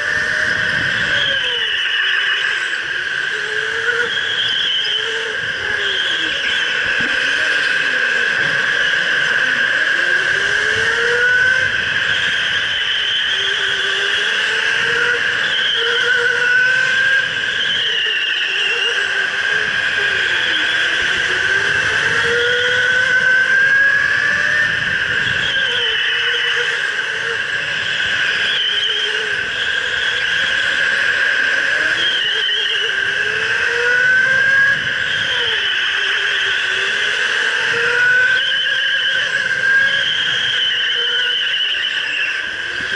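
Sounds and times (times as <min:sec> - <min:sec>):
electric go-kart motor whining: 0:00.0 - 0:42.9
whine and hiss from karting: 0:00.0 - 0:42.9.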